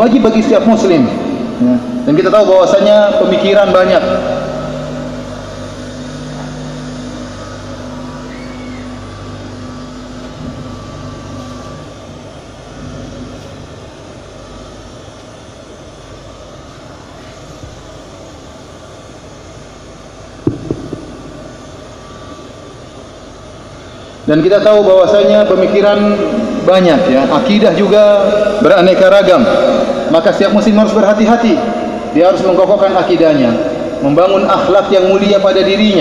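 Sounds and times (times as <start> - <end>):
low hum: 0.0 - 35.7
rumble of crowded hall: 0.0 - 36.0.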